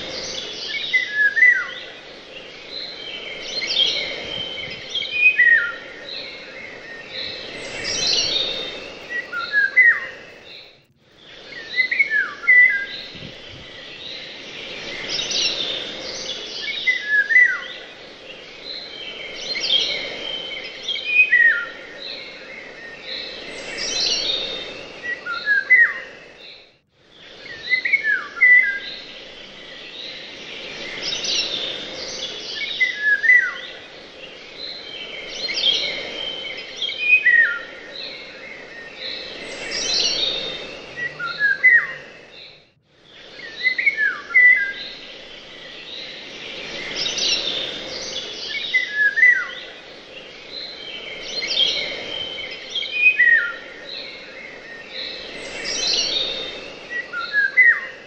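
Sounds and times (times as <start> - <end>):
small birds chirping and singing: 0.0 - 58.0.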